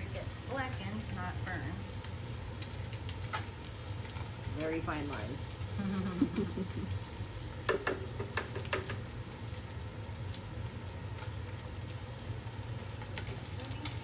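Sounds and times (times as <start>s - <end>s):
fish fillets sizzling in a pan: 0.0s - 14.0s.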